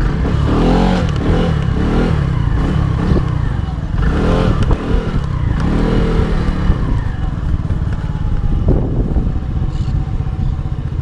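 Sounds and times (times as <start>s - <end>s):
scooter engine running: 0.0s - 11.0s
wind rumble on microphone: 0.0s - 11.0s.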